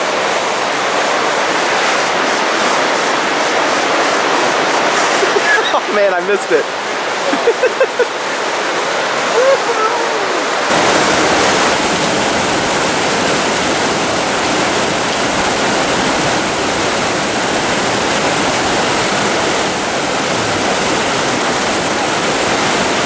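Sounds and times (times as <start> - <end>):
whitewater rushing over boulders: 0.0 - 23.0.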